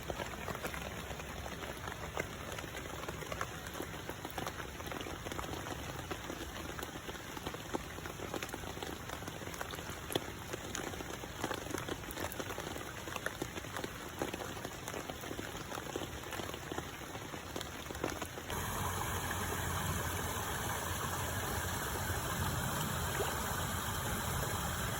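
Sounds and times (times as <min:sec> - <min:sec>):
rain falling on pond water: 0:00.0 - 0:24.9.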